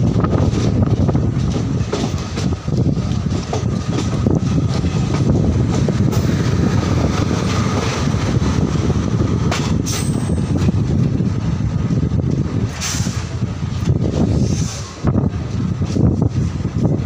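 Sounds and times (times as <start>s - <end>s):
train wheels rumbling on rails: 0.0s - 17.0s
wind rushing over microphone: 0.0s - 17.0s.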